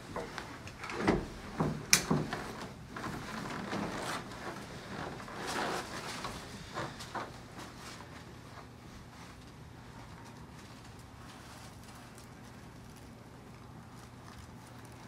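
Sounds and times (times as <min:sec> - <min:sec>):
clothes rustling against cushion: 0:00.0 - 0:15.0.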